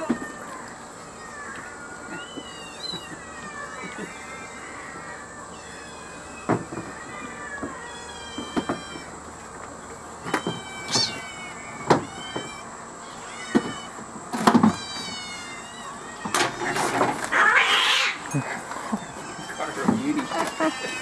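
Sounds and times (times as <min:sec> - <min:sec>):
kittens meowing: 0:00.0 - 0:21.0.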